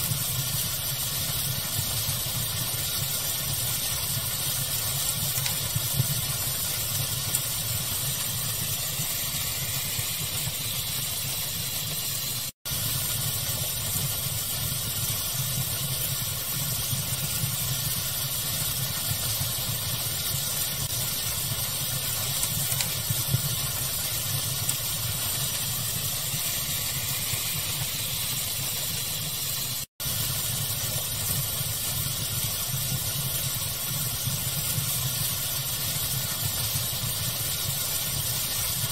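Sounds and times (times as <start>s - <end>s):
fire crackling: 0.0s - 38.9s
steady pink noise hiss: 0.0s - 38.9s.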